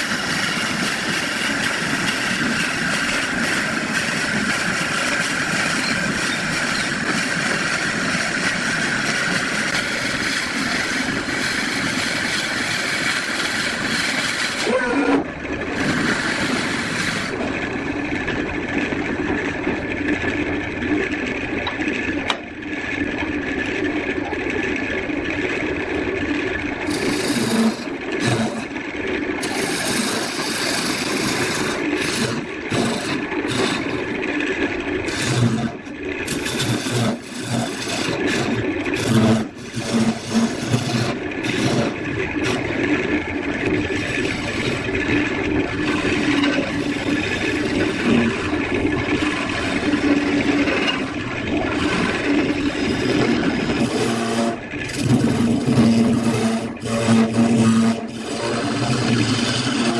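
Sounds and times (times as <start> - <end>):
tool scraping spinning wood: 0.0 - 59.9
wood lathe running: 0.0 - 59.9.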